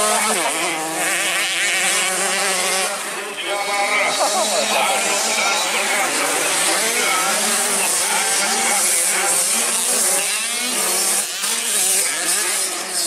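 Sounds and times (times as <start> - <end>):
dirt bike engines buzzing: 0.0 - 13.0.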